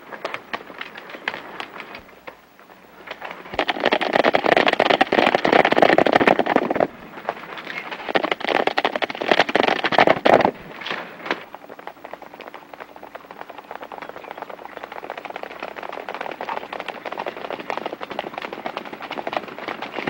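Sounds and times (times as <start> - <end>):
horses galloping hoofbeats: 0.0 - 20.0.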